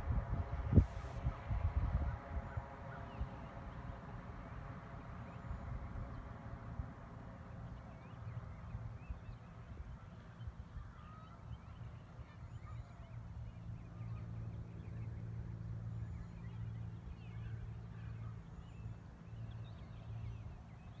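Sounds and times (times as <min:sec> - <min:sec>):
propeller plane drone overhead: 0:00.0 - 0:21.0.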